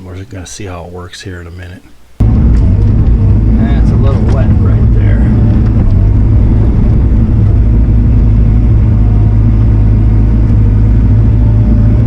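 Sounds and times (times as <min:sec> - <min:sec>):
diesel engine drone: 0:02.2 - 0:12.0.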